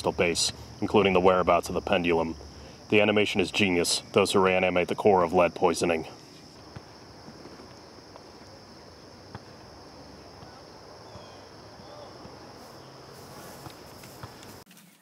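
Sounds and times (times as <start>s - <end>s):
insects chirring: 0.0s - 14.7s.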